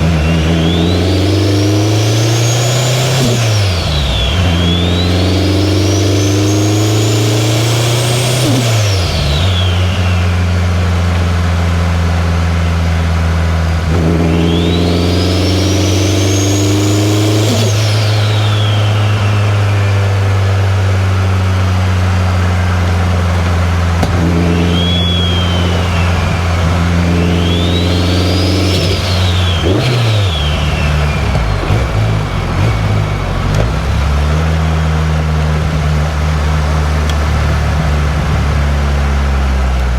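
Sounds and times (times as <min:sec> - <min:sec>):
high turbo whine: 0:00.0 - 0:39.9
turbocharged car engine pulling: 0:00.0 - 0:39.9.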